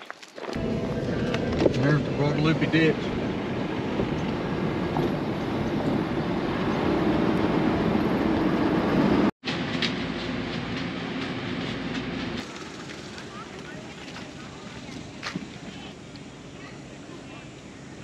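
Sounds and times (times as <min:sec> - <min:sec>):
car road and engine rumble: 0:00.5 - 0:18.0.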